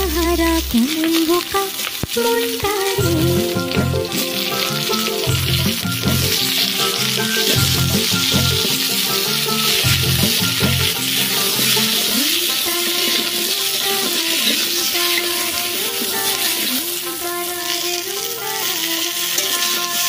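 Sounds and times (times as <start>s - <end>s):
hot oil sizzling in a wok: 0.0s - 20.0s
instrumental background music: 0.0s - 20.0s.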